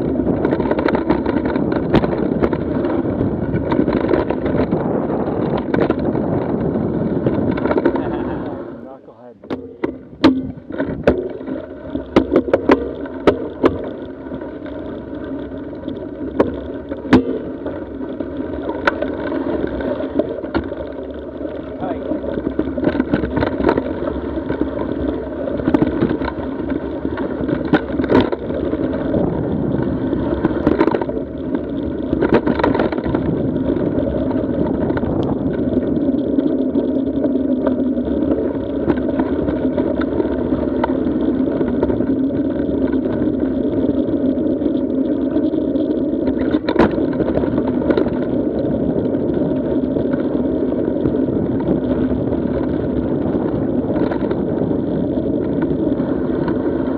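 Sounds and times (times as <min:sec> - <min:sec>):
bike knocking and rattling: 0:00.0 - 0:56.9
wind and tyre noise: 0:00.0 - 0:56.9.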